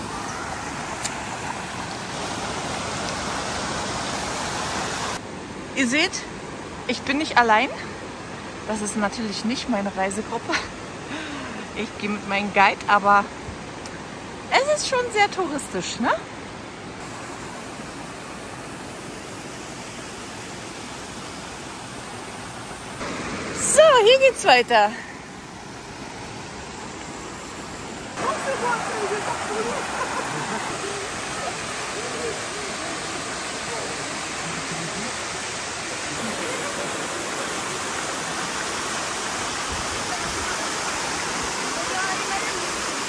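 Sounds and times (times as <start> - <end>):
mountain stream rushing over boulders: 0.0 - 43.0.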